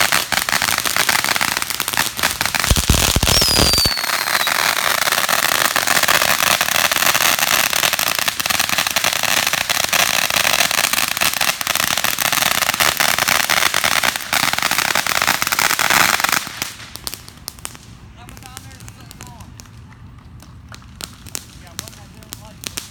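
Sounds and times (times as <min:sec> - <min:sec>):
fireworks crackling: 0:00.0 - 0:22.9.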